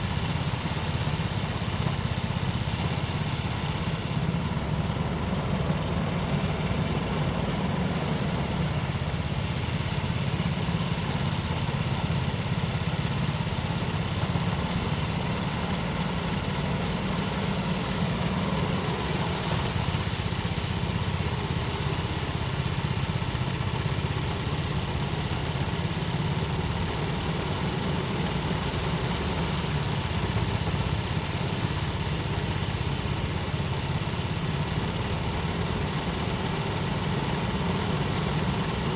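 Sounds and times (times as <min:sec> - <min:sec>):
rice thresher engine humming: 0:00.0 - 0:38.9.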